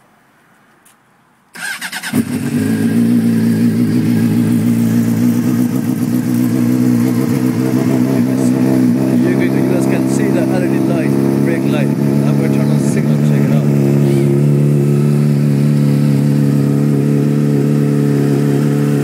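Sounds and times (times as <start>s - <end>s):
motorcycle engine idling: 1.6s - 19.0s.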